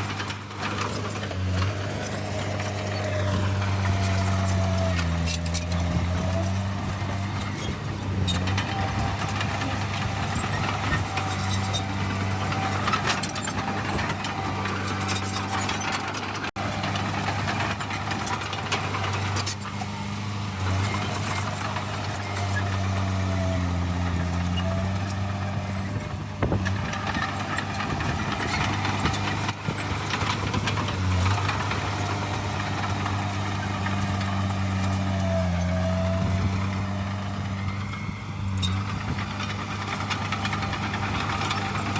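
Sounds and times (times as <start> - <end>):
diesel machinery engine drone: 0.0 - 41.9.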